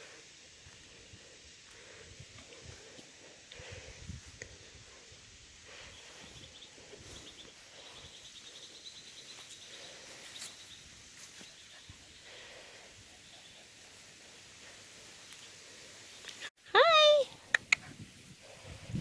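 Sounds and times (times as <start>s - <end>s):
faint outdoor background noise: 0.0s - 19.0s.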